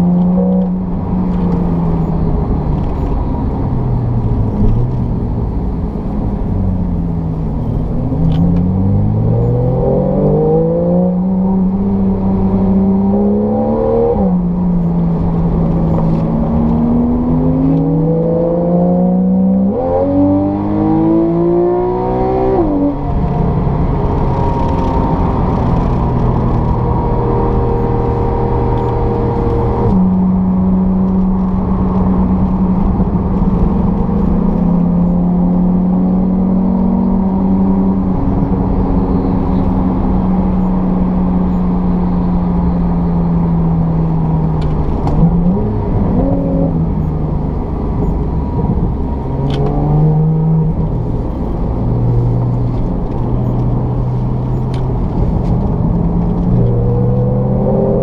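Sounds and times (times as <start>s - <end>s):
car engine from inside cabin: 0.0s - 58.0s
tyre and road noise: 0.0s - 58.0s.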